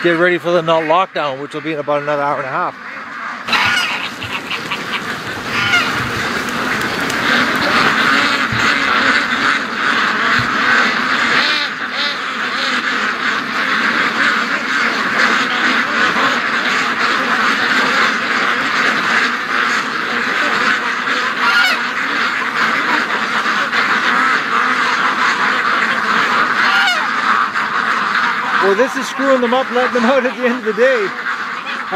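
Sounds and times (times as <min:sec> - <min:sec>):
flock of ducks quacking: 0:00.0 - 0:31.9.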